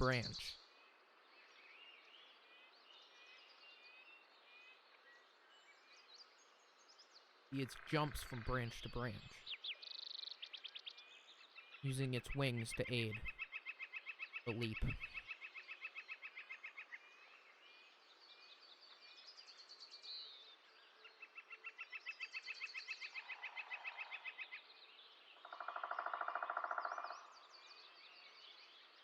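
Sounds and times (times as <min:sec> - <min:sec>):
songbirds trilling and chirping: 0:00.0 - 0:29.0.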